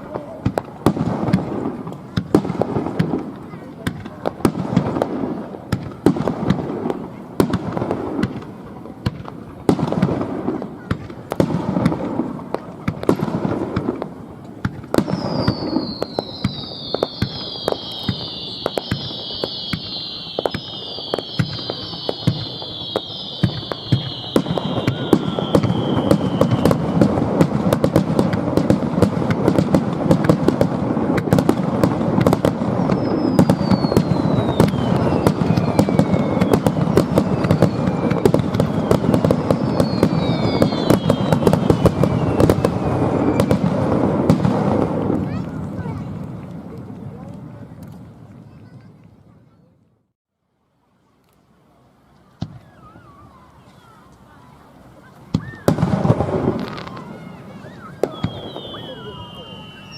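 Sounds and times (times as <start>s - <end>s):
falling firework whistles: 0.0s - 46.0s, 52.4s - 54.3s, 55.3s - 59.9s
fireworks bangs and crackles: 0.0s - 49.7s, 52.2s - 59.9s.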